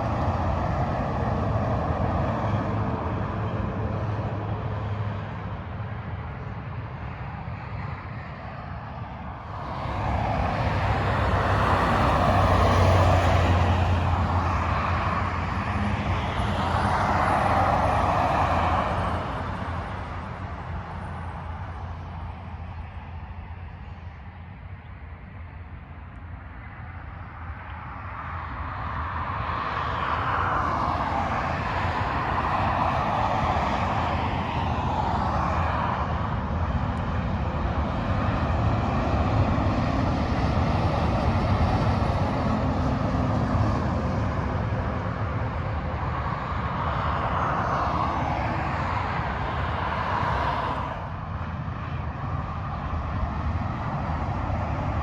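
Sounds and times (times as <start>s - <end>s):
freeway traffic passing: 0.0s - 55.0s.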